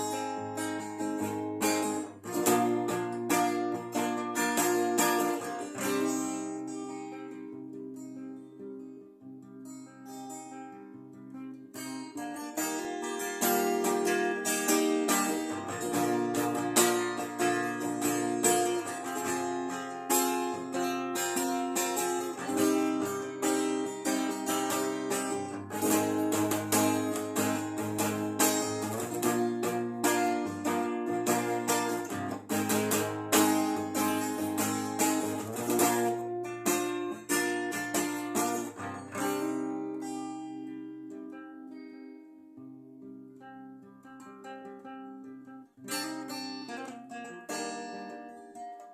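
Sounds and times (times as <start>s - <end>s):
acoustic guitar playing: 0.0s - 48.9s.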